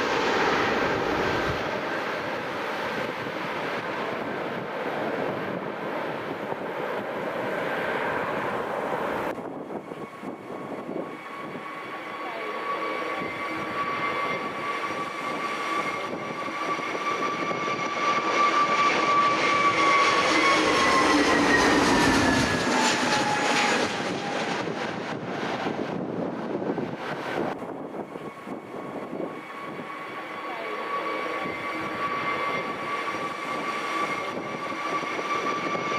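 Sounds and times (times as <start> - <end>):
jet airliner passing: 0.0 - 35.9.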